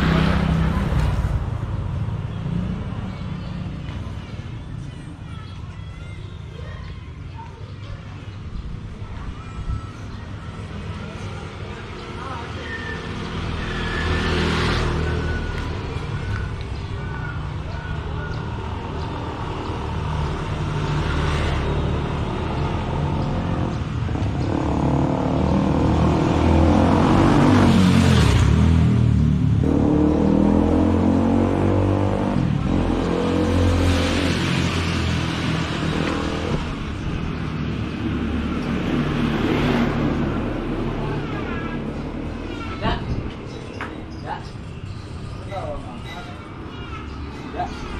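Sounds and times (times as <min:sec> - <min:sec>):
vehicles passing by: 0:00.0 - 0:47.9.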